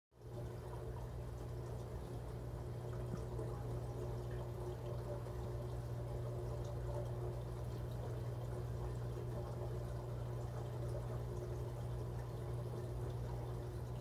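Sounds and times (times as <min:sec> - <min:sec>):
pump hum: 0:00.2 - 0:14.0
water trickling and splashing: 0:00.2 - 0:14.0.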